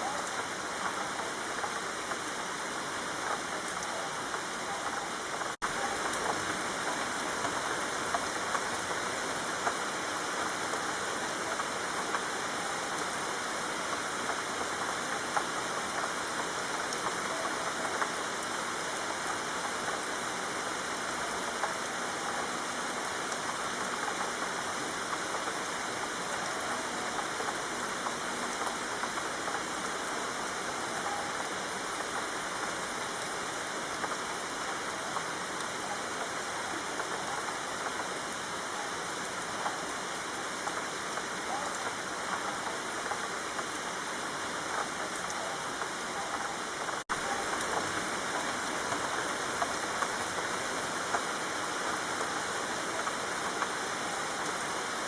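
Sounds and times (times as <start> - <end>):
rain falling: 0.0 - 55.0
raindrop ticks: 0.0 - 55.0.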